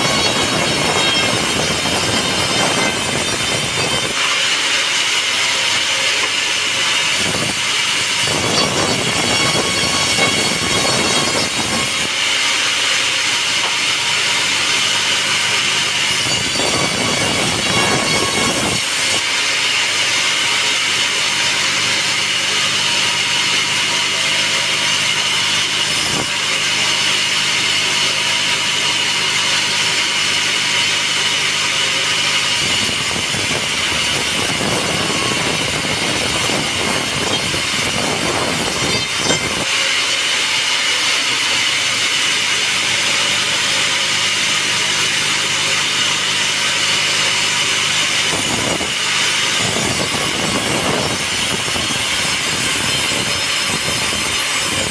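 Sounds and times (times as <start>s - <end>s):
sawmill saw cutting log: 0.0s - 54.9s.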